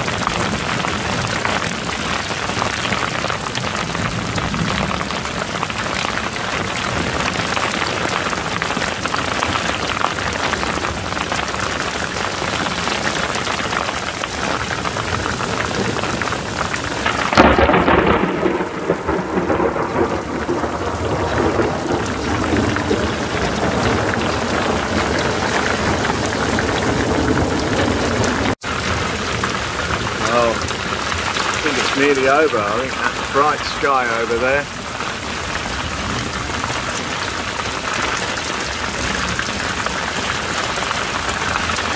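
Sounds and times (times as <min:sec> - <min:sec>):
heavy rain on canopy: 0:00.0 - 0:41.9
thunder clap rumbling: 0:00.0 - 0:41.9.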